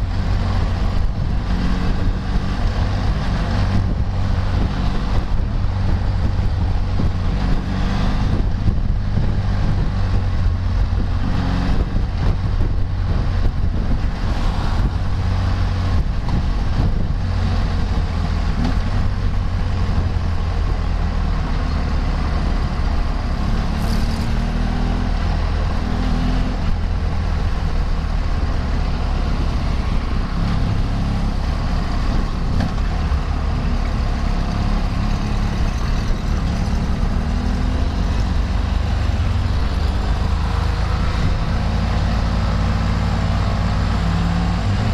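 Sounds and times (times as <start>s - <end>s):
vehicle engine running: 0.0s - 44.9s
wind buffeting microphone: 0.0s - 44.9s.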